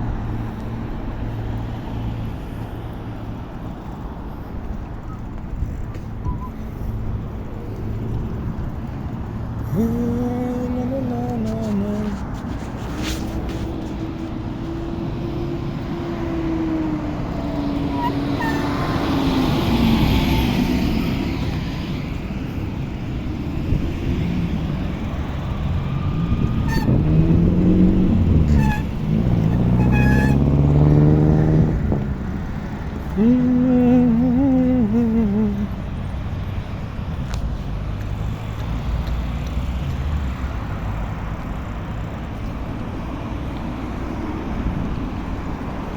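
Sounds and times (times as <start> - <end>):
cars passing by: 0.0 - 45.9
low road rumble: 0.0 - 45.9.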